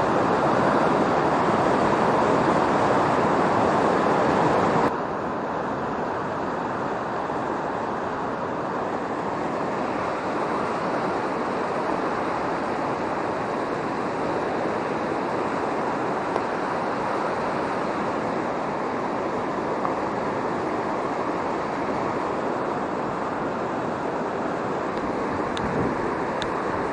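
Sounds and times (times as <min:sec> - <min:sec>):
river rushing in flood: 0:00.0 - 0:26.9.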